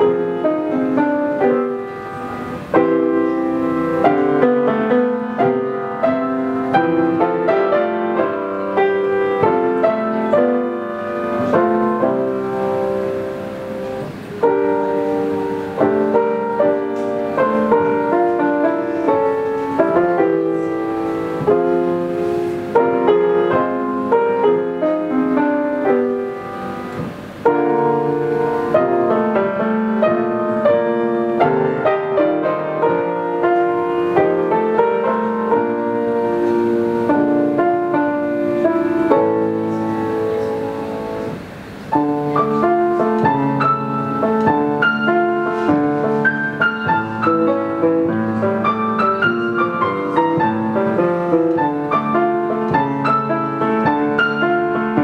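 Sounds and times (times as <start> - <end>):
solo piano piece: 0.0 - 55.0.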